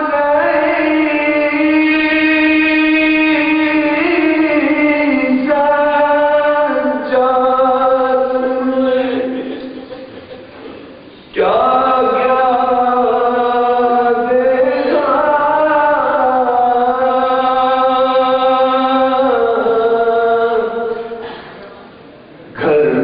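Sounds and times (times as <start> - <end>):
man singing a lament: 0.0 - 10.0, 11.3 - 21.2, 22.6 - 23.0.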